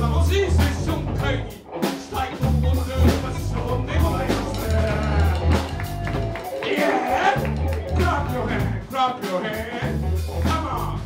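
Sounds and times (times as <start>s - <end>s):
bass guitar: 0.0s - 11.0s
drum kit beating: 0.0s - 11.0s
electric guitars: 0.0s - 11.0s.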